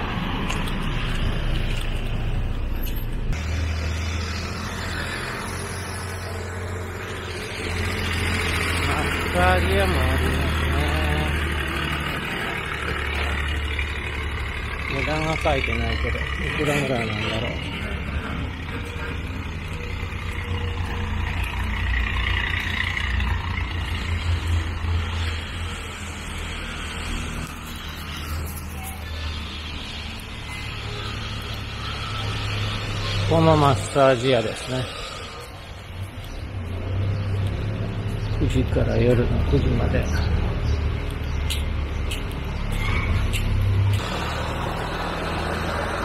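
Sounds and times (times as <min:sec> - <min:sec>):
vehicle engine rumble: 0:00.0 - 0:46.0.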